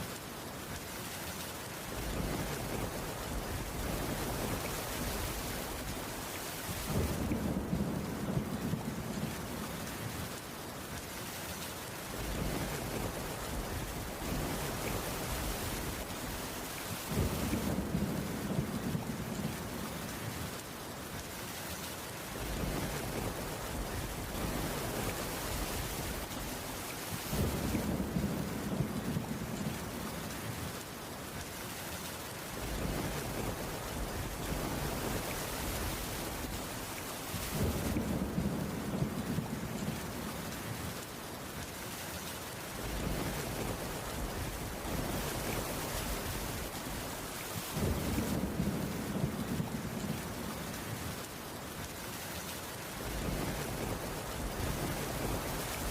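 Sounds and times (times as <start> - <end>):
heavy rain on wooden roof: 0.0 - 55.9
low rumble of thunder: 1.9 - 10.4, 12.0 - 20.8, 22.3 - 30.9, 32.5 - 41.1, 42.7 - 51.8, 53.0 - 55.9.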